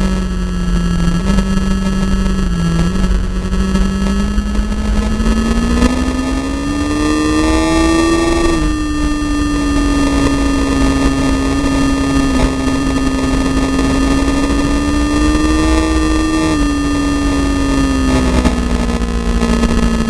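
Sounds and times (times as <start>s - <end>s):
engine at high revs: 0.0s - 20.0s
wind rumble on microphone: 0.0s - 20.0s.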